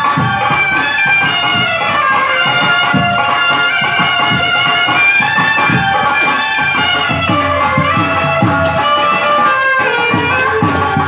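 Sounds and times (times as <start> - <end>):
folk dance melody: 0.0 - 11.0
steady drum beat: 0.0 - 11.0.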